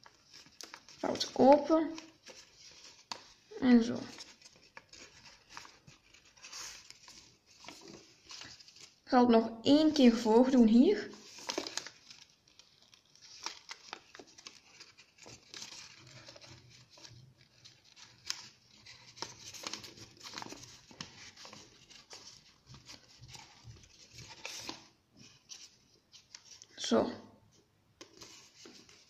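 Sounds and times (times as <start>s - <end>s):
paper rustling and crackling: 0.0s - 9.1s, 10.5s - 26.8s, 28.0s - 29.0s.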